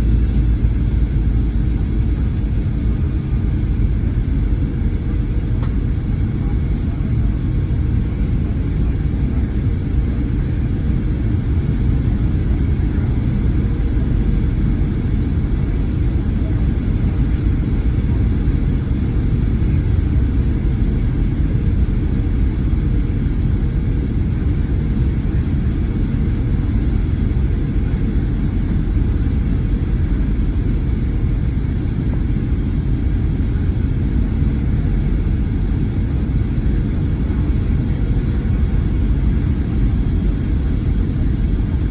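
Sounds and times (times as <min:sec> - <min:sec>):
airplane cabin rumble: 0:00.0 - 0:41.9.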